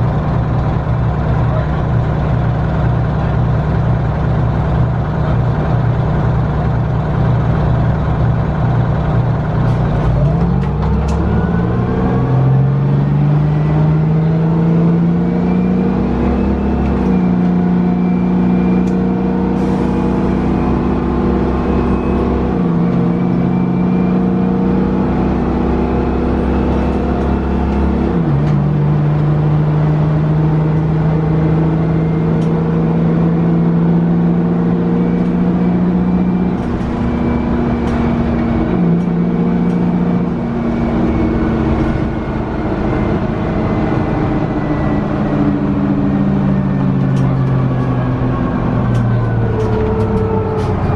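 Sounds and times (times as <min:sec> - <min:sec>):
bus diesel engine running: 0:00.0 - 0:50.9.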